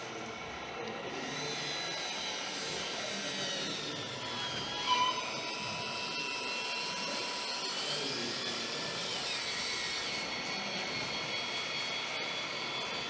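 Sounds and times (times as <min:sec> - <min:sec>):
electric gear motors whining: 0:00.0 - 0:13.0.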